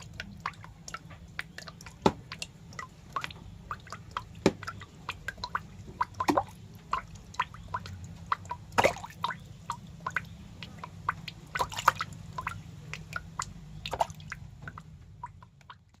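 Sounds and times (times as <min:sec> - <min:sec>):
snail feeding wet clicks: 0:00.0 - 0:16.0.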